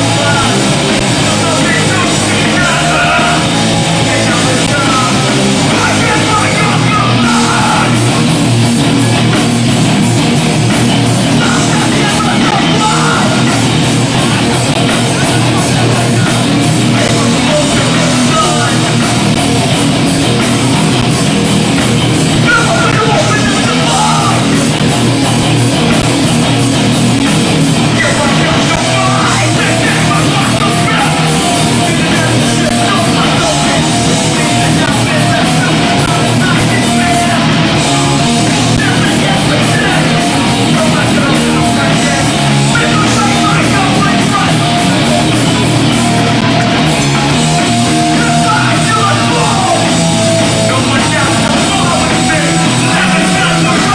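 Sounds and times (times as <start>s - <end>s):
punk band playing live: 0.0s - 53.9s
yelled vocals: 0.0s - 53.9s.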